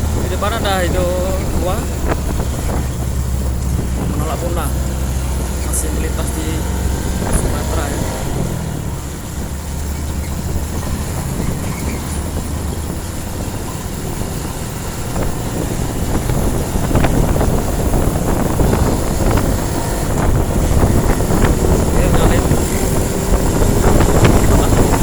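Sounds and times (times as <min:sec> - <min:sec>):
rattling: 0:00.0 - 0:25.0
truck engine running: 0:00.0 - 0:25.0
tyre and road noise: 0:00.0 - 0:25.0.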